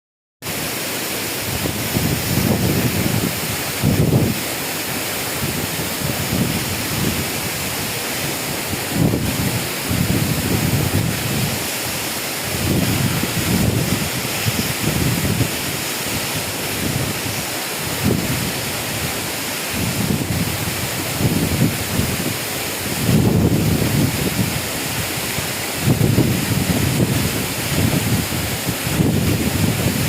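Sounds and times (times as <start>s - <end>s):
waterfall rushing: 0.4s - 30.0s
wind buffeting microphone: 1.4s - 4.4s, 5.1s - 30.0s.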